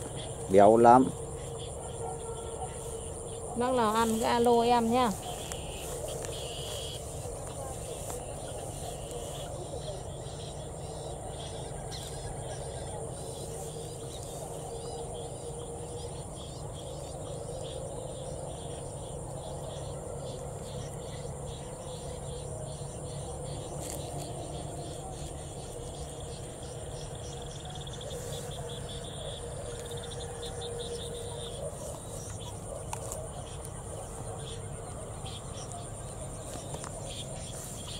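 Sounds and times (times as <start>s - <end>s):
crickets trilling: 0.0s - 37.9s
frogs chirping: 0.0s - 37.9s.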